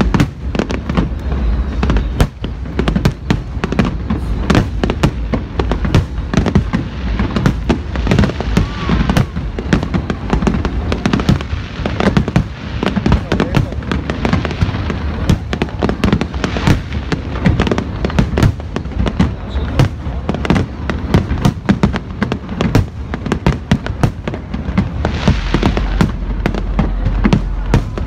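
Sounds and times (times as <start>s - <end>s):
fireworks deep booms: 0.0s - 28.0s
fireworks sharp bangs: 0.0s - 28.0s.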